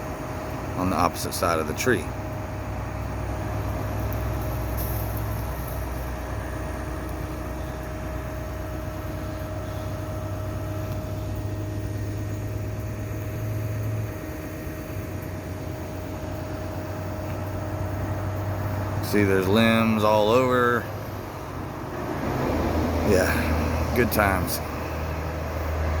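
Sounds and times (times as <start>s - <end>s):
excavator diesel engine idling: 0.0s - 26.0s.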